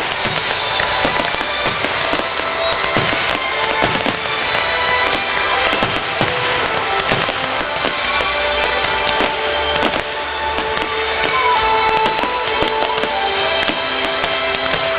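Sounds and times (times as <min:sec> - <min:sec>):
fireworks bursting and crackling: 0:00.0 - 0:14.9
music playing: 0:00.0 - 0:14.9.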